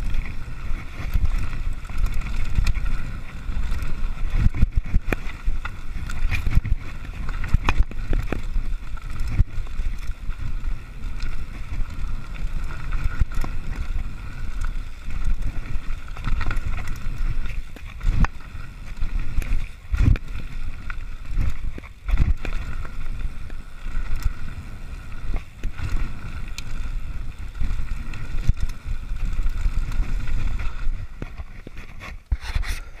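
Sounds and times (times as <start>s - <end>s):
bike knocking and rattling: 0.0s - 33.0s
bike tyre noise on dirt: 0.0s - 33.0s
wind on microphone: 0.0s - 33.0s.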